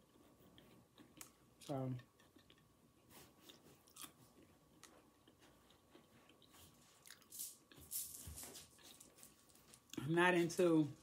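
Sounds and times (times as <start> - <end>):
person chewing food quietly: 0.0 - 7.9, 8.6 - 10.1.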